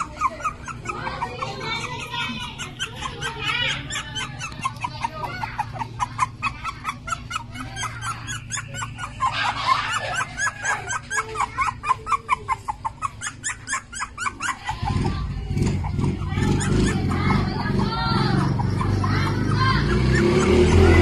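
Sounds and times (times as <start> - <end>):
puppies yipping and whimpering: 0.0 - 21.0.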